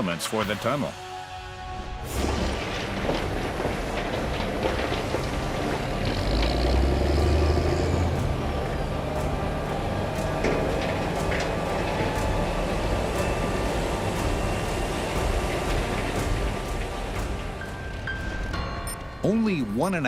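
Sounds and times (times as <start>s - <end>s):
excavator engine rumble: 2.2s - 18.4s
metallic clanks of buckets: 2.2s - 18.4s.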